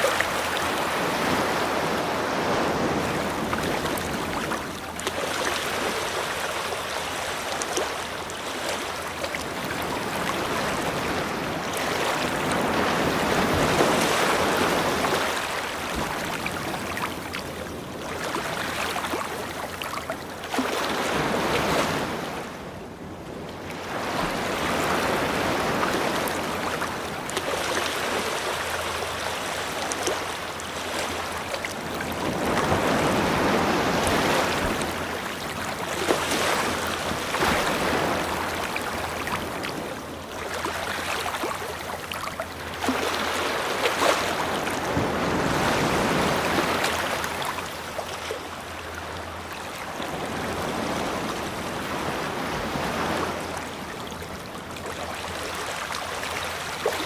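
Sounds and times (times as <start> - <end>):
waves breaking on shore: 0.0 - 57.0.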